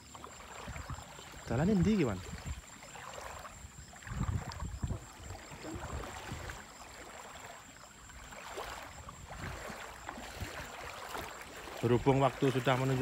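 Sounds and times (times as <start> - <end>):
water sloshing around legs: 0.0 - 13.0.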